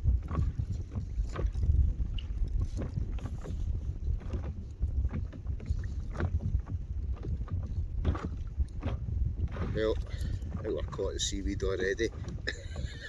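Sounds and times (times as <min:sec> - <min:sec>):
water splashes and knocks: 0:00.0 - 0:13.0
wind rumbling on microphone: 0:00.0 - 0:13.0.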